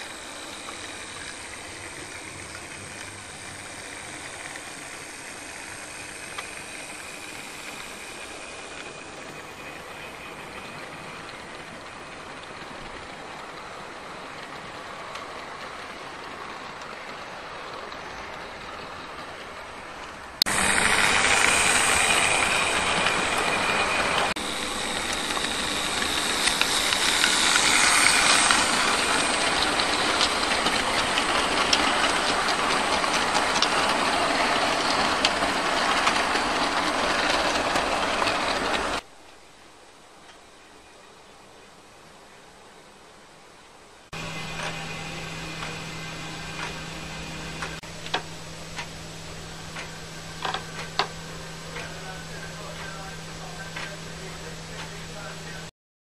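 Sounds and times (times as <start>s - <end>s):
model train whirring and rattling: 0.0s - 39.1s, 44.1s - 55.7s.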